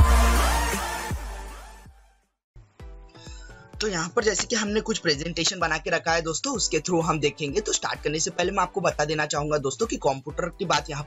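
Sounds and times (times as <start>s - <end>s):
electronic music with heavy bass: 0.0s - 2.0s, 2.6s - 11.0s.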